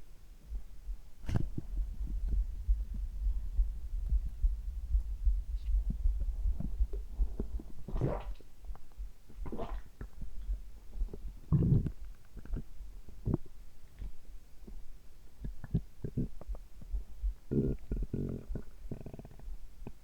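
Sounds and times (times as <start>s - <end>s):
low pulsing heartbeat: 0.3s - 20.0s
gurgling stomach rumbles: 0.5s - 20.0s.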